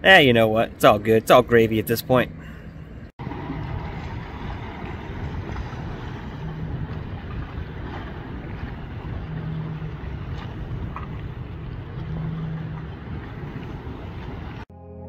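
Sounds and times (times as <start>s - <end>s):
wind buffeting microphone: 1.6s - 14.7s.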